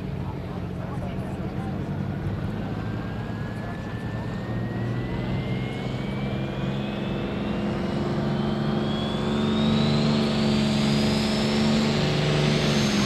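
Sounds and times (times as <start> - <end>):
high turbo whine: 2.2 - 13.0.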